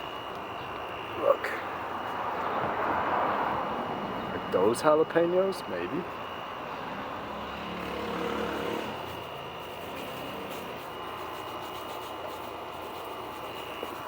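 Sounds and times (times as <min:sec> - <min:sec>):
thin steady high tone: 0:00.0 - 0:02.7, 0:03.5 - 0:14.0
distant engine hum: 0:00.0 - 0:14.0.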